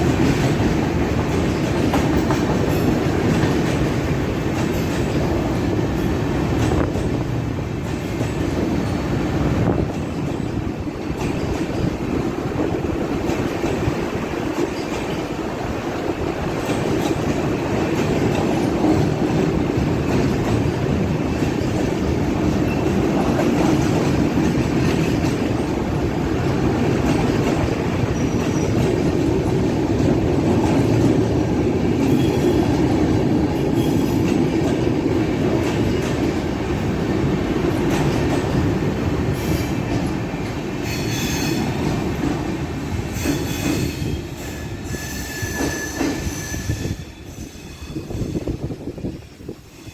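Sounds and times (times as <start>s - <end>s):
wheels clicking over rail joints: 0.0s - 44.2s
train coaches rolling past: 0.0s - 49.9s.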